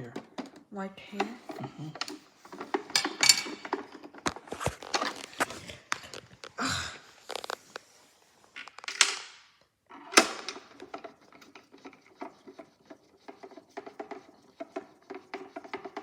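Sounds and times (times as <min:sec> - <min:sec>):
plastic scrape: 0:01.2 - 0:09.0, 0:09.9 - 0:16.0.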